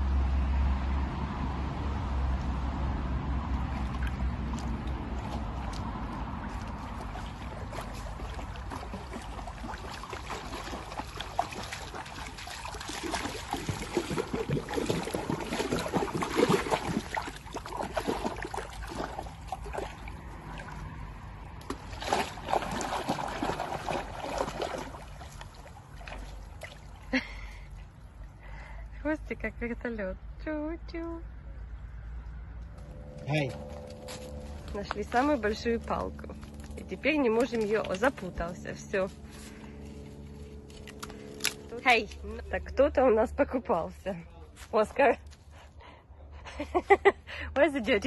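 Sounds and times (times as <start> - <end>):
water splashing and sloshing: 0.0 - 29.4, 31.8 - 45.7.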